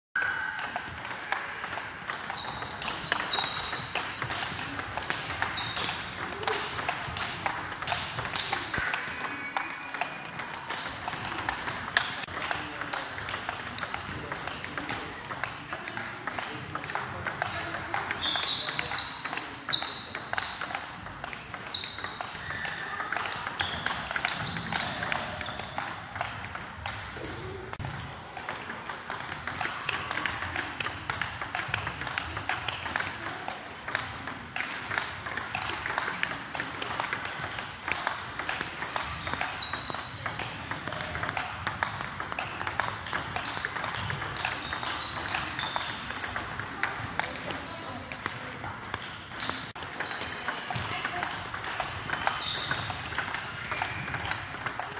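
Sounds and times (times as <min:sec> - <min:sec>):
table tennis ball clicking: 0:00.2 - 0:54.9.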